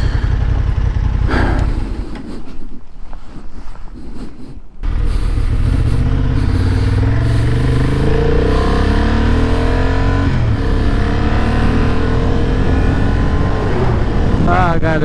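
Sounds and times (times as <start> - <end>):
motorcycle engine accelerating: 0.0 - 2.3, 4.8 - 15.0.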